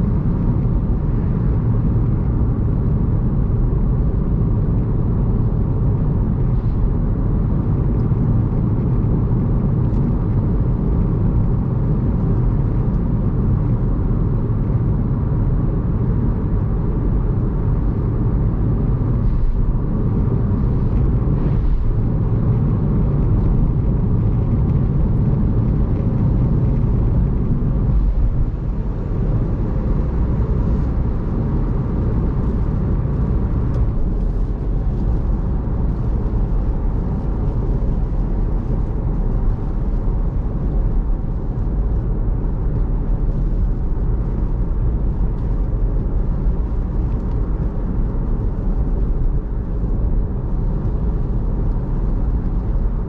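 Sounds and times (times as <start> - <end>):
car road and tyre rumble: 0.0 - 53.0
rain and wet road noise: 0.0 - 53.0.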